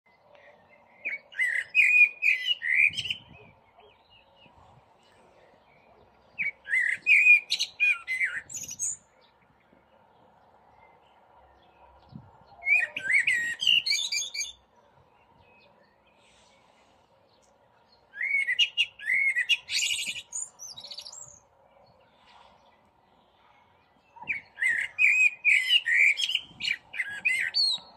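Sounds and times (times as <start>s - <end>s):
blackbird singing: 0.1s - 27.9s.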